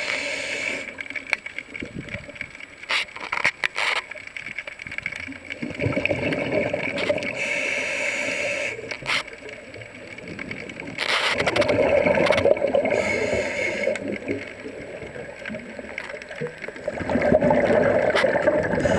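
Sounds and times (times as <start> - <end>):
underwater gurgling and bubbling: 0.0 - 18.9.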